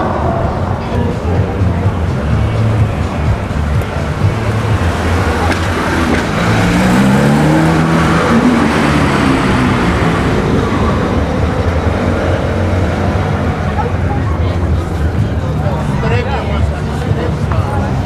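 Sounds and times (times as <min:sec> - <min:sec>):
car engine revving: 0:00.0 - 0:18.0
low exhaust rumble: 0:00.0 - 0:18.0.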